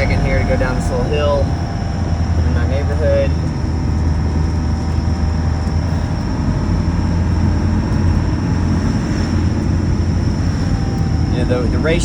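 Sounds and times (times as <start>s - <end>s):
diesel engine running: 0.0s - 12.0s
steady low hum: 0.0s - 12.0s.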